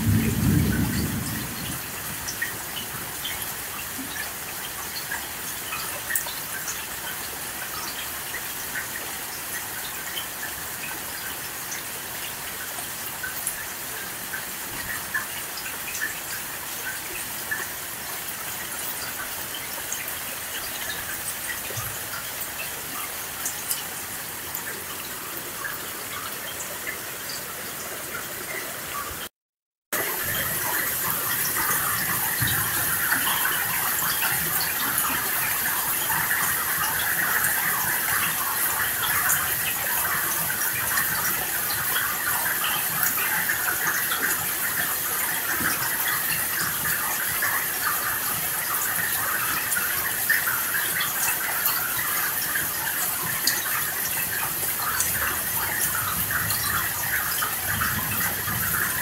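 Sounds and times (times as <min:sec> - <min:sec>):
heavy rain falling: 0:00.0 - 0:29.3, 0:30.0 - 0:59.0.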